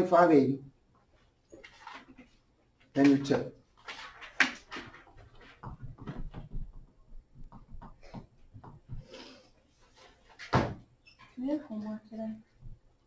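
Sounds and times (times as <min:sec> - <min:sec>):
small knocks and shuffles: 0:01.0 - 0:13.0.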